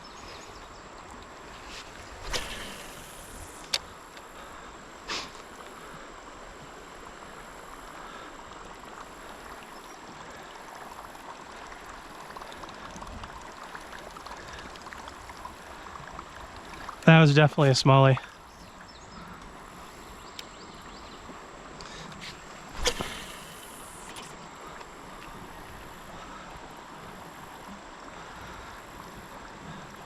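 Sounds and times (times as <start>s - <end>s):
flowing river water: 0.0s - 30.0s.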